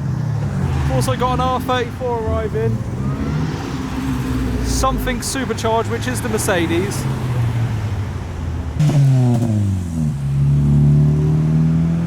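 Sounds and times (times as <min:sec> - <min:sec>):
car engine driving by: 0:00.1 - 0:12.0.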